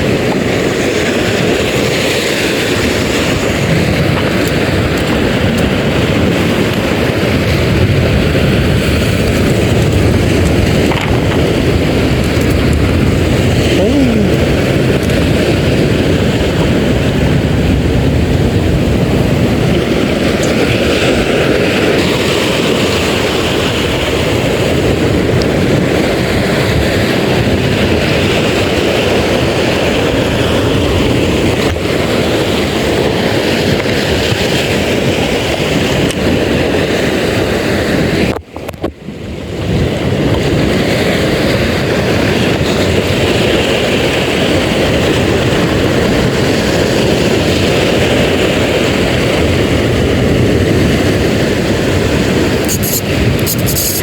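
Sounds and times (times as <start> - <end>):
sea waves: 0.0 - 38.4, 39.5 - 54.0
wind on microphone: 0.0 - 54.0.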